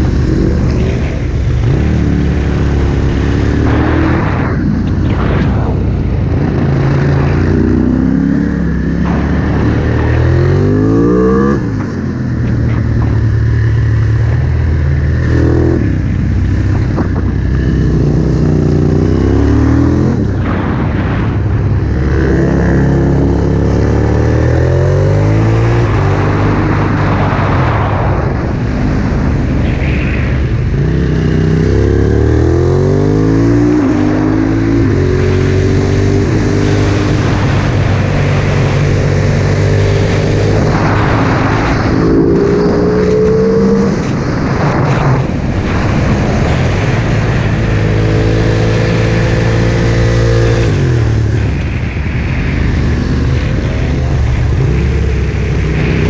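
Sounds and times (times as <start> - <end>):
motorcycle engine revving: 0.0 - 56.0
wind rushing: 0.0 - 56.0.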